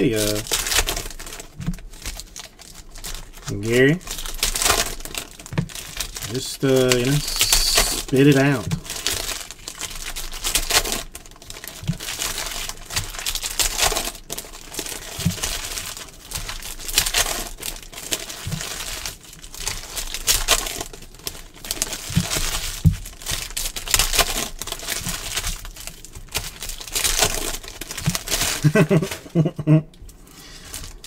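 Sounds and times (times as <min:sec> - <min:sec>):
card pack wrappers tearing and crinkling: 0:00.0 - 0:31.0.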